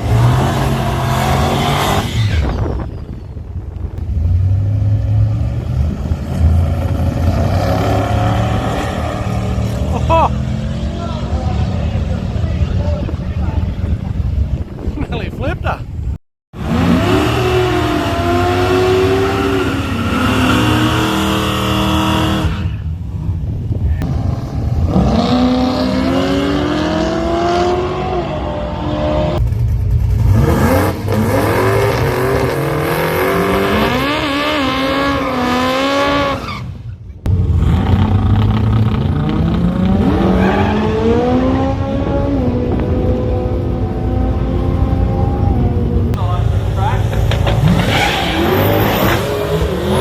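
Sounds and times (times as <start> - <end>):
drag-race car engines revving: 0.0 - 14.8, 16.6 - 50.0.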